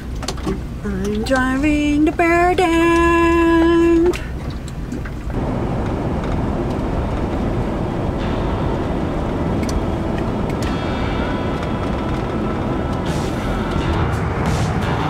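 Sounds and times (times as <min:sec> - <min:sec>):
engine and road noise: 0:00.0 - 0:15.0.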